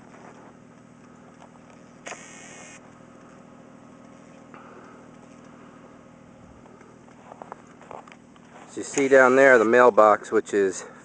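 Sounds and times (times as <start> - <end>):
distant engine hum: 0.0 - 11.0.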